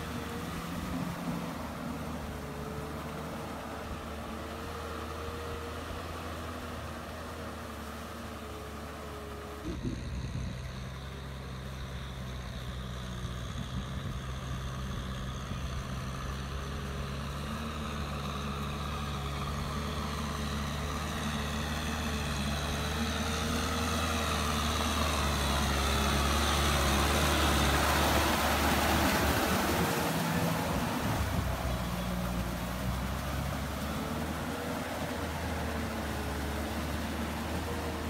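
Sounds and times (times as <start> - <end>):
churning mud and water: 0.0 - 38.0
tractor diesel engine running: 0.0 - 38.0.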